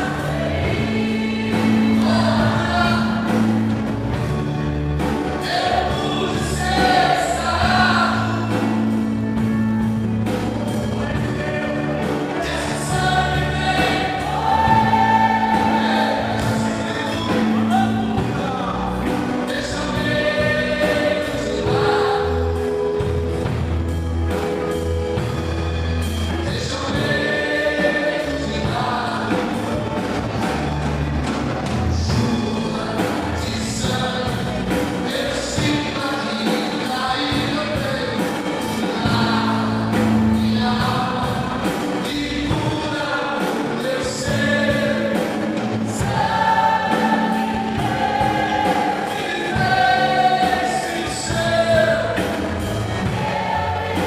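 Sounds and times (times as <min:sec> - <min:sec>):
choir singing a hymn: 0:00.0 - 0:31.3, 0:32.0 - 0:54.0
band accompaniment with bass: 0:00.0 - 0:54.0.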